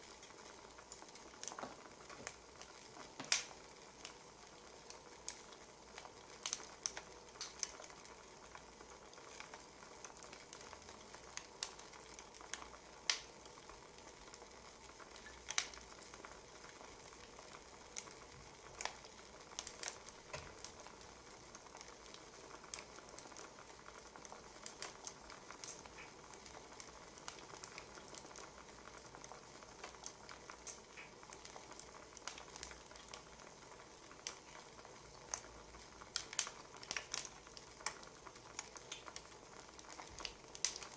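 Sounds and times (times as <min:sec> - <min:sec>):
soft steady hiss: 0:00.0 - 0:40.9
wood fire crackling: 0:00.0 - 0:40.9.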